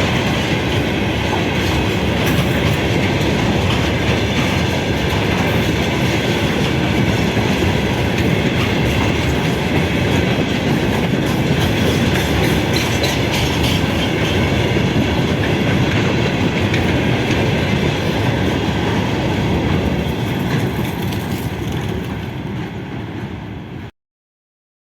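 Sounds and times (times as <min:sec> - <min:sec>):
wheels clattering over rail joints: 0:00.0 - 0:22.8
train rumble: 0:00.0 - 0:23.9.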